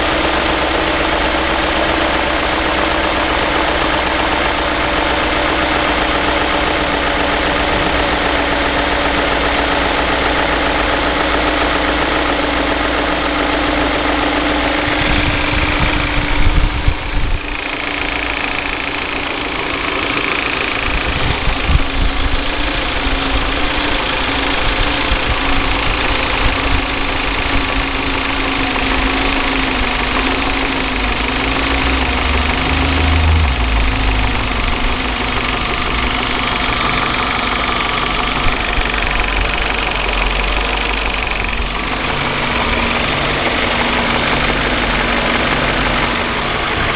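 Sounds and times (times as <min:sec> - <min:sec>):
car engine idling with rattle: 0:00.0 - 0:46.9.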